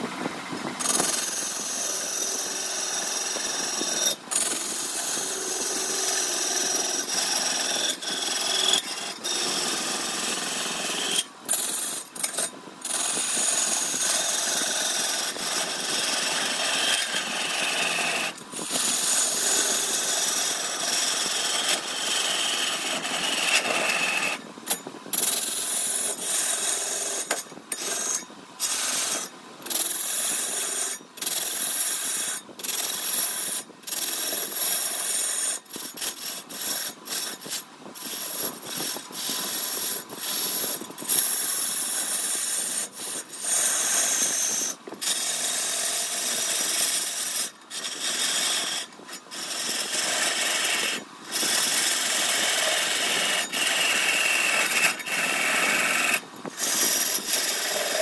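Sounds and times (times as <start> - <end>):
lathe tool scraping wood: 0.0 - 58.0.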